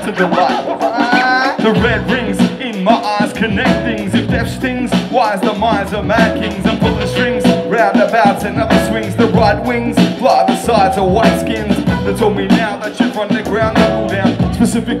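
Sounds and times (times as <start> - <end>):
live groove band playing: 0.0 - 15.0
person singing: 0.0 - 15.0
steady drum beat: 0.0 - 15.0.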